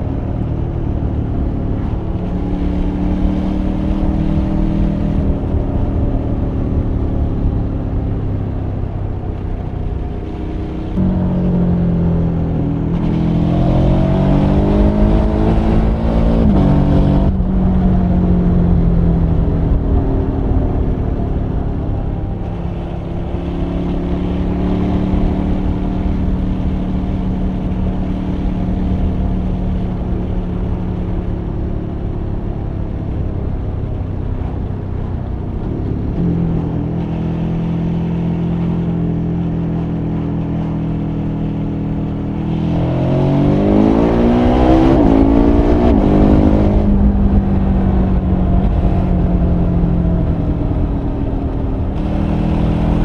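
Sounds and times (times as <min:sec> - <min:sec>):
motorcycle engine cruising and revving: 0:00.0 - 0:53.0.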